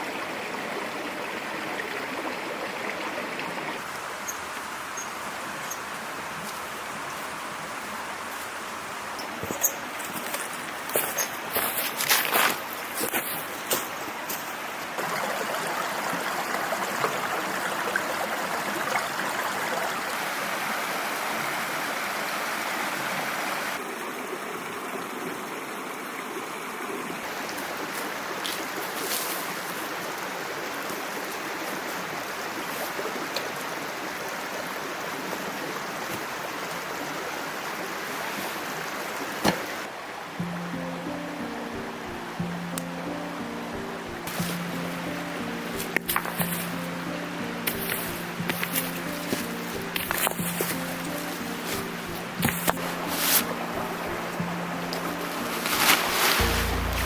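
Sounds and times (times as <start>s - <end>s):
stream babbling over rocks: 0.0s - 26.3s, 26.9s - 57.0s.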